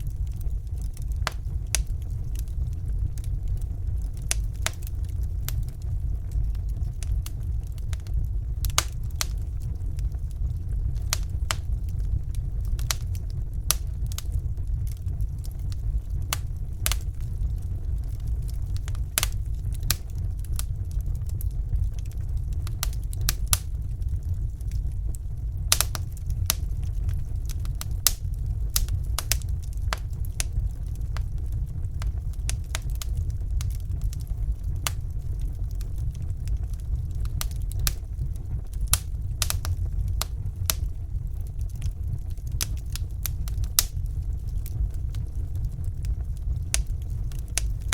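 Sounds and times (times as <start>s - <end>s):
fire crackling in fireplace: 0.0s - 47.9s.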